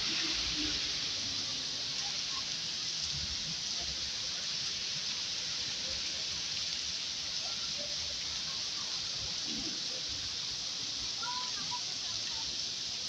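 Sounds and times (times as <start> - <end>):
rain on wet street: 0.0 - 13.0.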